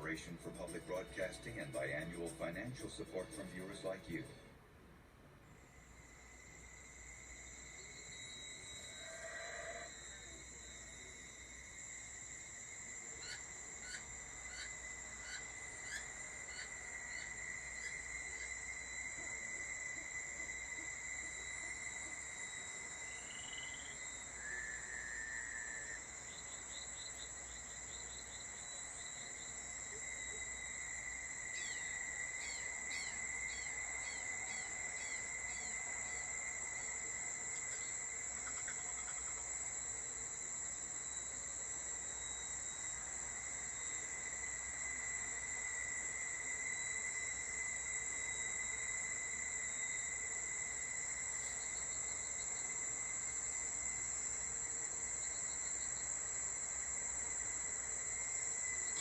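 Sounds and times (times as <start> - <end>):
insects chirring: 0.0 - 4.4, 5.5 - 59.0.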